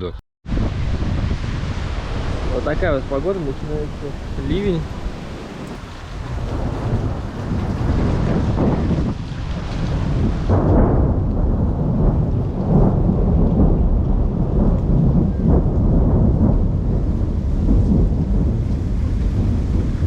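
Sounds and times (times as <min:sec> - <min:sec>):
deep thunder rumble: 0:00.4 - 0:20.0
rain: 0:00.5 - 0:20.0.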